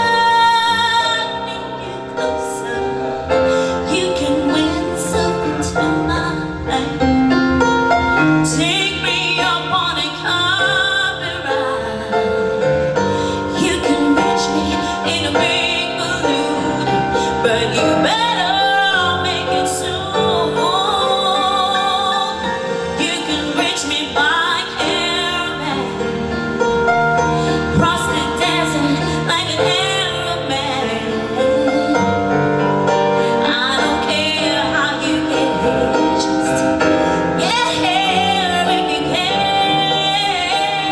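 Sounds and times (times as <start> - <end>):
person singing with vibrato: 0.0 - 26.6, 27.2 - 40.9.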